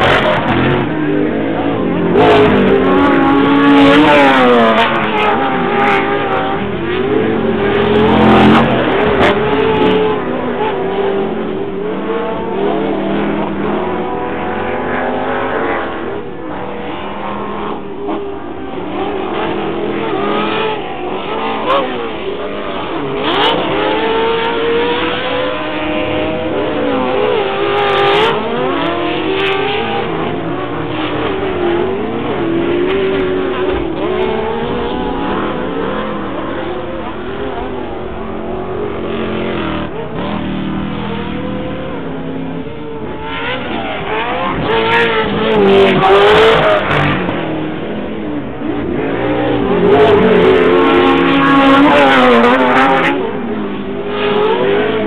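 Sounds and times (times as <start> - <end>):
off-road race engines revving: 0.0 - 55.0.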